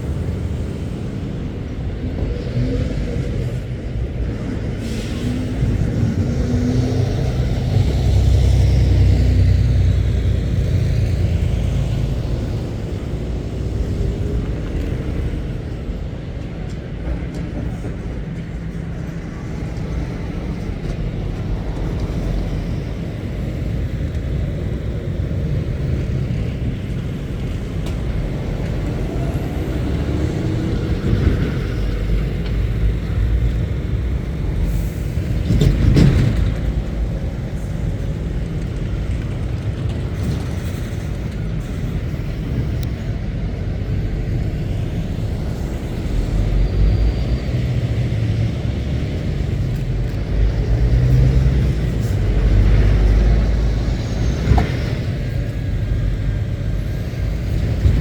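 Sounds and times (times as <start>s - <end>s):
lorry diesel engines rumbling: 0.0s - 58.0s.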